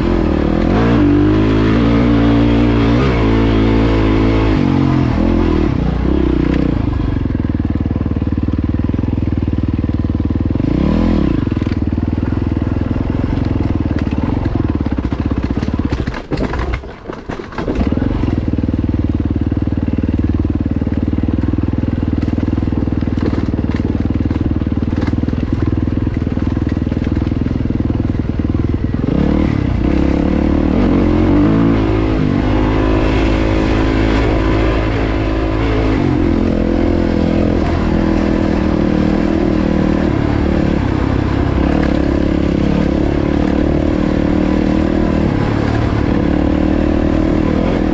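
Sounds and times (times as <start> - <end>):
dirt bike engine revving: 0.0 - 9.5, 10.1 - 15.9, 17.8 - 47.9.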